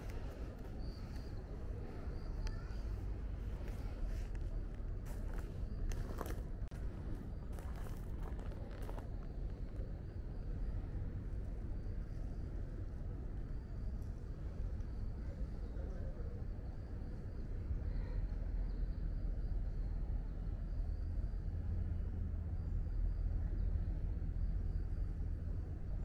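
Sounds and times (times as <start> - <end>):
low urban rumble: 0.0 - 26.0.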